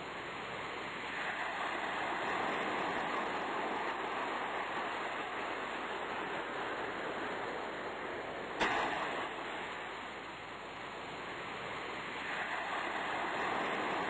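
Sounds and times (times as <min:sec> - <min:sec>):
sea surf washing: 0:00.0 - 0:14.0.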